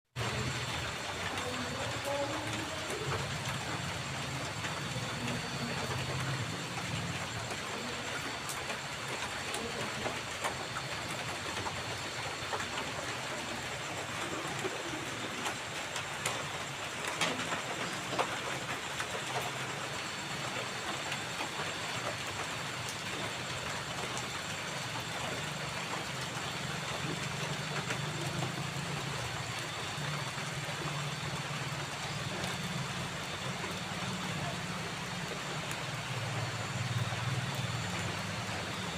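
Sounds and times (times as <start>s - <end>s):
light drizzle hissing: 0.1s - 38.9s
crickets trilling: 0.2s - 38.9s
raindrop ticks: 0.2s - 38.9s.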